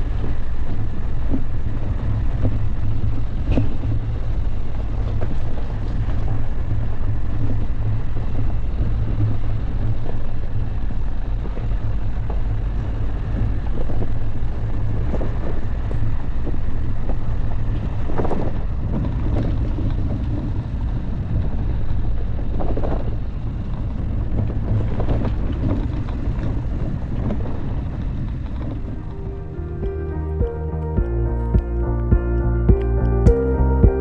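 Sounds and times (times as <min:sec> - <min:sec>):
car driving off-road: 0:00.0 - 0:33.9.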